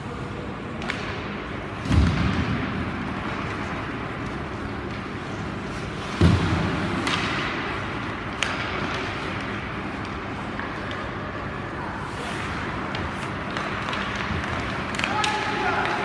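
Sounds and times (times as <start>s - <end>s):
arena noise: 0.0s - 16.0s
hockey stick or puck crack: 0.7s - 11.4s, 12.0s - 16.0s
skates on ice: 1.8s - 16.0s.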